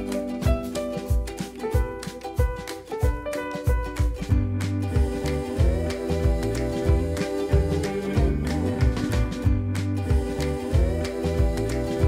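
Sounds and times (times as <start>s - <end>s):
plucked guitar notes: 0.0s - 12.0s
drum beat: 0.5s - 12.0s.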